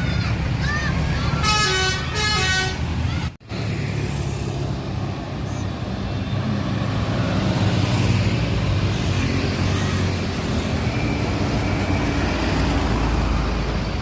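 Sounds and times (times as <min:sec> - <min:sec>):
bus engine rumbling: 0:00.0 - 0:14.0
road traffic noise: 0:00.0 - 0:14.0.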